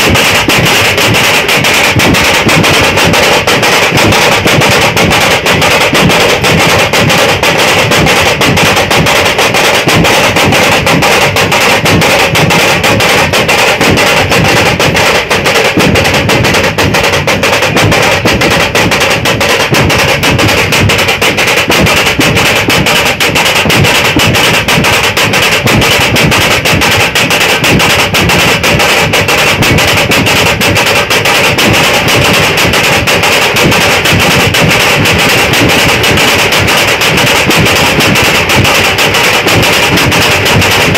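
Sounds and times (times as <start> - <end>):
loud drumming on dhol drums: 0.0 - 40.9.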